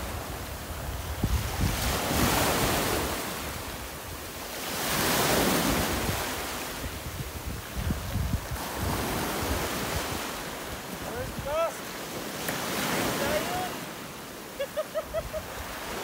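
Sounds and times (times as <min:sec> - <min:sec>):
wind buffeting microphone: 0:00.0 - 0:13.7
small waves washing: 0:00.0 - 0:16.0.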